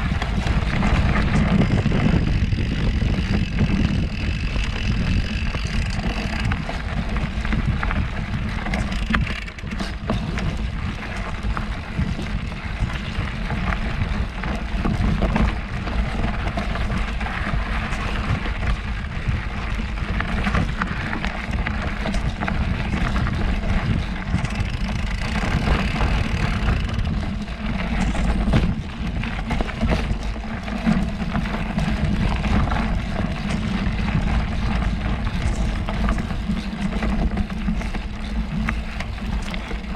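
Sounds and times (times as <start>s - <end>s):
bike clicks and rattles: 0.0s - 39.9s
tyres on dirt trail: 0.0s - 39.9s
wind rushing over microphone: 0.0s - 39.9s.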